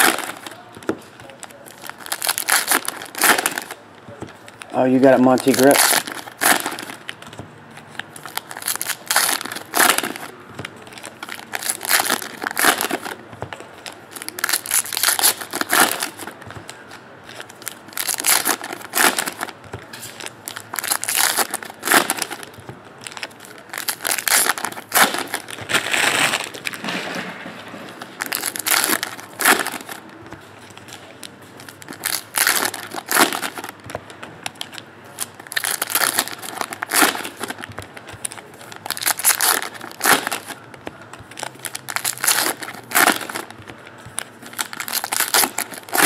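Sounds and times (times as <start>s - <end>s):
card packs crinkling: 0.0s - 46.0s.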